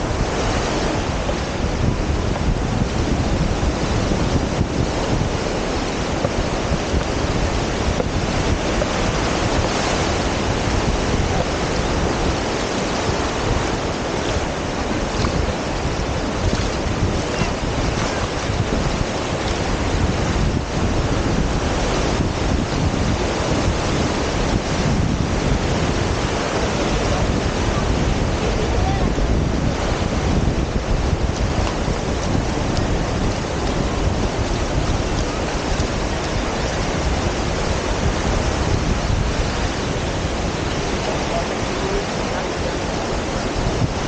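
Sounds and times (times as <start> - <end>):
surf breaking on beach: 0.0 - 44.0
wind buffeting microphone: 0.0 - 44.0.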